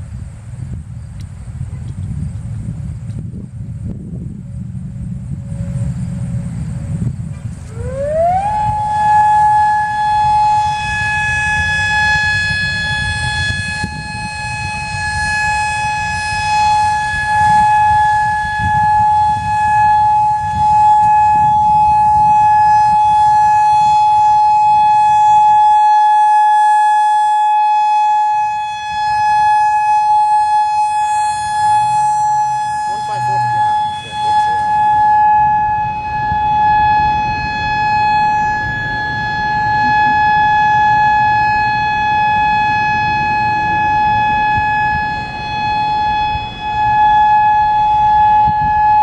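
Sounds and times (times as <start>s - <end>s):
electronic warning siren: 3.3s - 49.0s.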